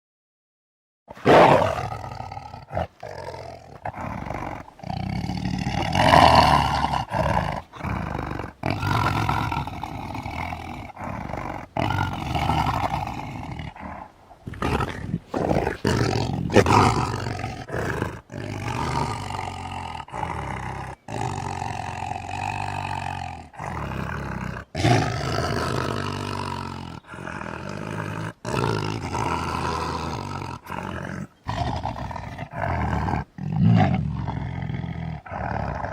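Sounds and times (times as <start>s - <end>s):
tiger roaring and growling: 1.1s - 35.9s.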